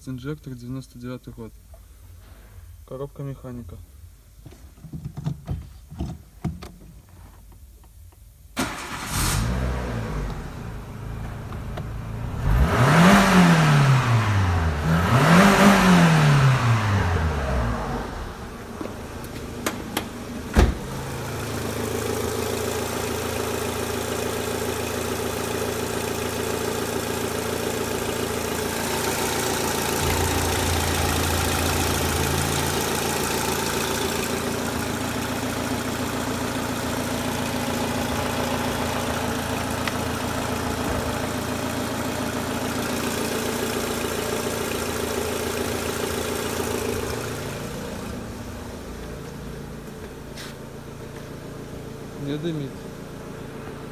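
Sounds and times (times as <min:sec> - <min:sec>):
car engine starting and revving: 0:08.6 - 0:53.9.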